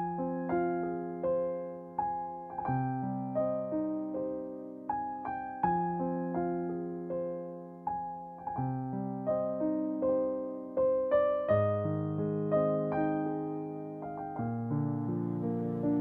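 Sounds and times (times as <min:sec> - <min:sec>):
slow gentle piano piece: 0:00.0 - 0:16.0.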